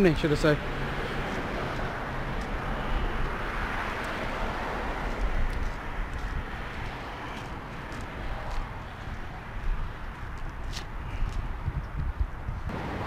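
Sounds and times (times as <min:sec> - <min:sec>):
vehicle passing by: 0:00.2 - 0:11.2.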